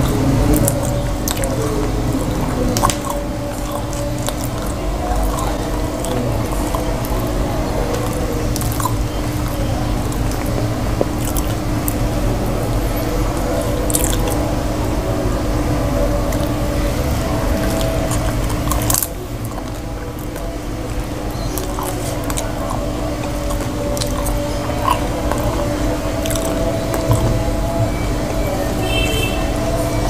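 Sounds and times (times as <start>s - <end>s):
wet squishy chewing: 0.0s - 15.0s, 15.9s - 28.4s
steady low hum: 0.0s - 30.0s.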